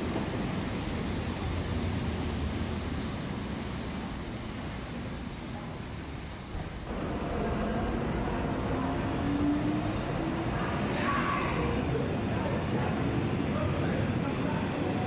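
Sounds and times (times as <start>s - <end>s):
railway coaches rolling past: 0.0s - 15.0s.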